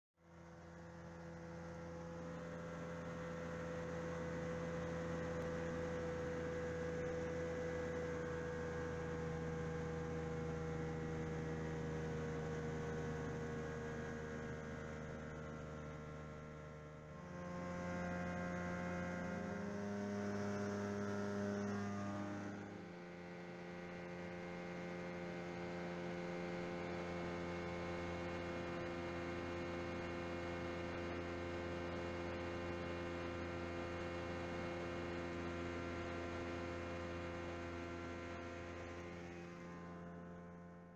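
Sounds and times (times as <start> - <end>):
light aircraft engine droning: 0.2 - 40.9.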